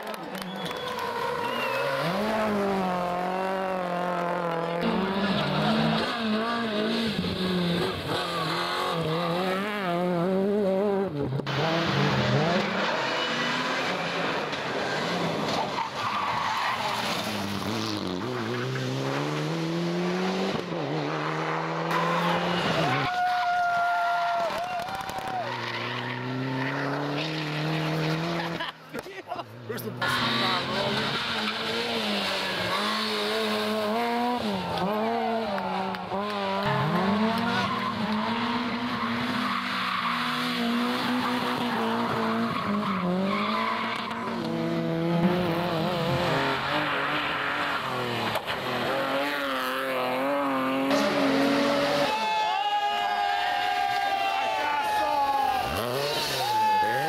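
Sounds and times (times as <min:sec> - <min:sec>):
rally car engines revving: 0:00.2 - 0:52.4, 0:53.0 - 0:57.0.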